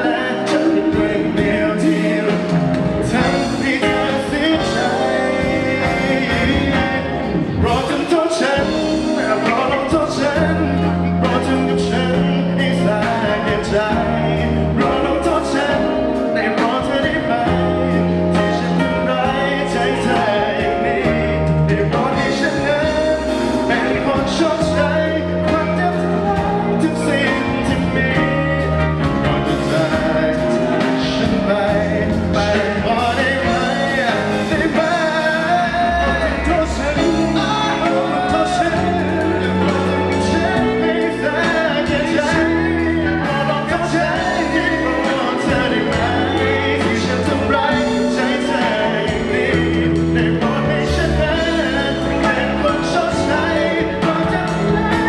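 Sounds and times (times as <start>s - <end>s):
man singing into microphone: 0.0s - 55.0s
sustained bass notes: 0.0s - 55.0s.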